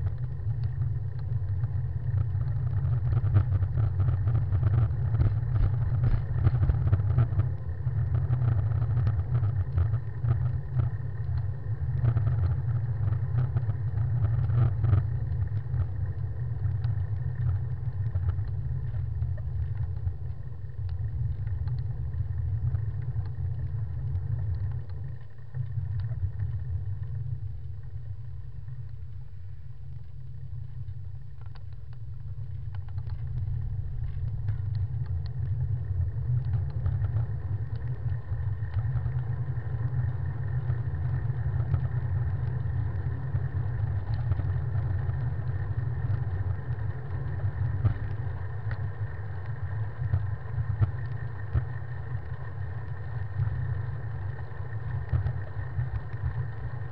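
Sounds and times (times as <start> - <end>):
road vibration rumble: 0.0 - 56.9.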